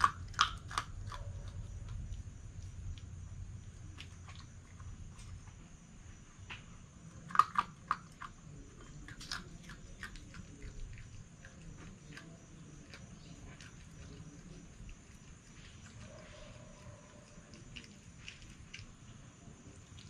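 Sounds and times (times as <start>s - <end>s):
fox chewing and crunching: 0.0s - 20.0s.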